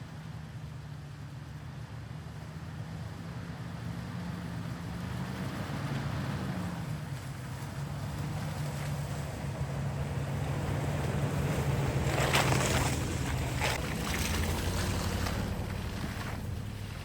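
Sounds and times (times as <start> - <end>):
car engine low hum: 0.0 - 17.0.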